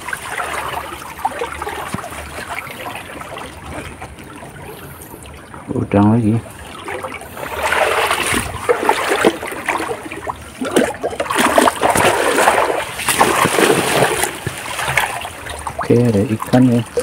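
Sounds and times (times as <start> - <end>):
shallow river water splashing: 0.0 - 17.0.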